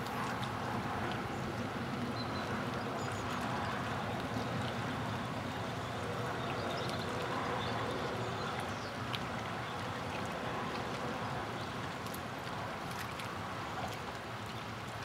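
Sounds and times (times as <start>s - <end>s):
small waves lapping on shore: 0.0s - 15.0s
wind: 0.0s - 15.0s.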